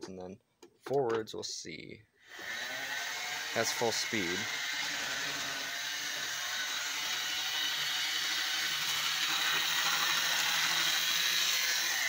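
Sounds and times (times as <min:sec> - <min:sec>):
model locomotive motor whirring: 0:02.3 - 0:12.0.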